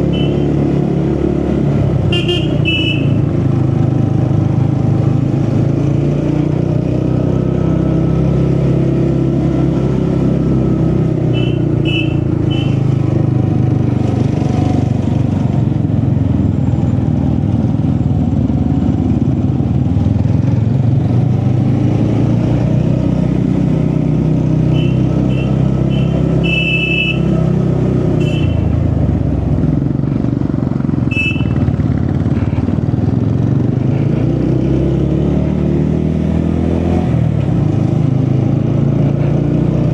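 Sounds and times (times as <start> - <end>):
motorcycle engine running: 0.0 - 6.9, 7.5 - 34.2.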